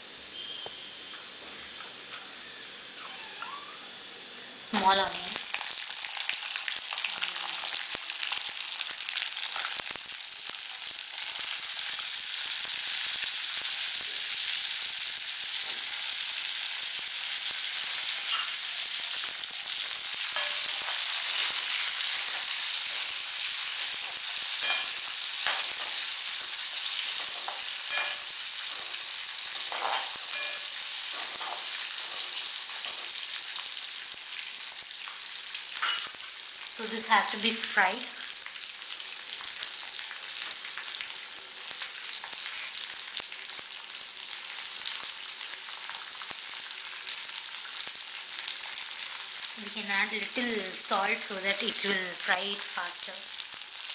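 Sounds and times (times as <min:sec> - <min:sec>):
spices sizzling in hot oil: 0:00.0 - 0:53.9.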